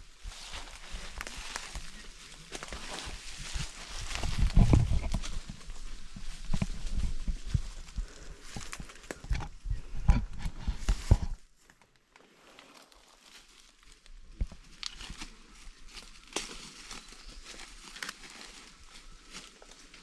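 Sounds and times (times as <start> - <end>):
crackling rustles: 0.0 - 20.0.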